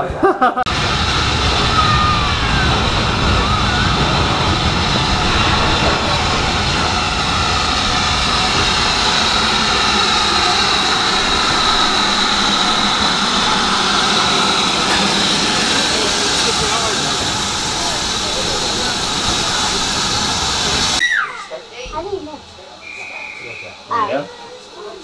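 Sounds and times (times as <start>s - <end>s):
moving train rushing: 0.6s - 25.0s.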